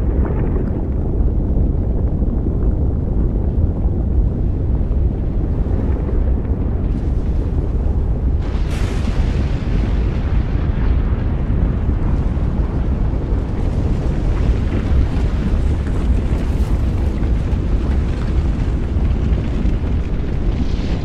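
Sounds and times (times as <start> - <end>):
deep steady rumble: 0.0 - 21.0
faint crackle: 0.0 - 21.0.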